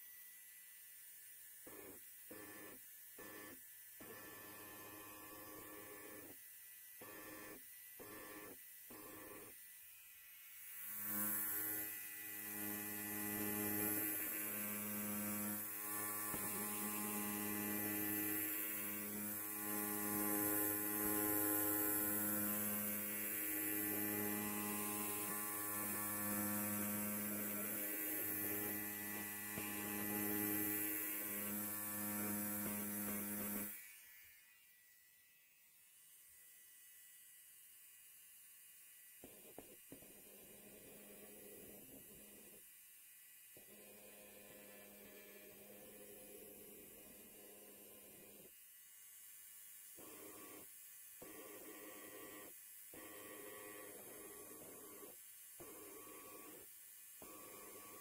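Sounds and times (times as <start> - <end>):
electric hair clipper buzzing: 0.0 - 58.0.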